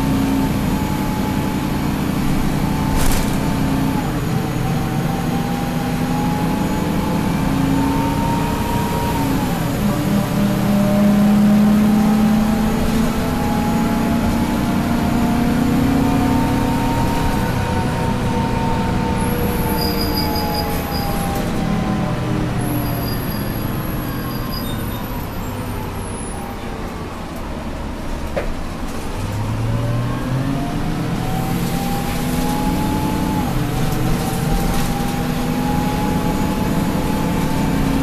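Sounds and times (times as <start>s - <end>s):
bus engine pulling: 0.0s - 38.0s.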